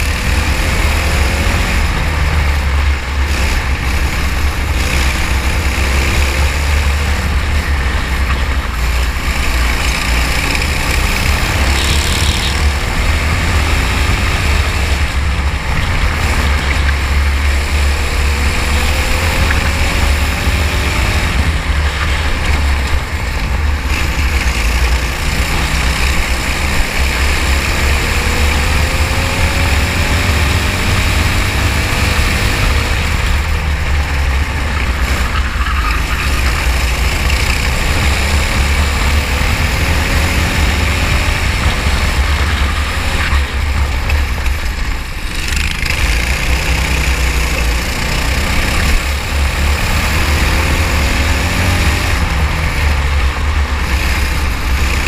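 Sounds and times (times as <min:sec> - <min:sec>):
racing kart engine: 0:00.0 - 0:55.0.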